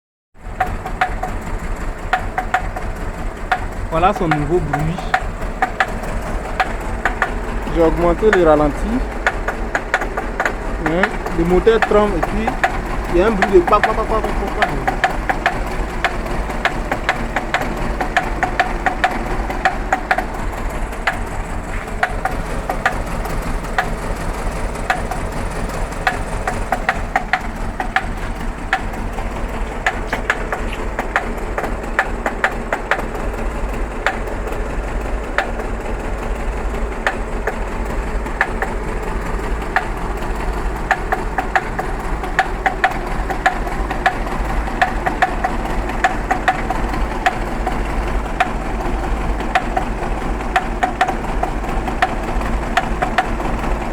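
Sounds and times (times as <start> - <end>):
car engine idling: 0.4 - 53.9
sharp engine ticks: 0.4 - 53.9.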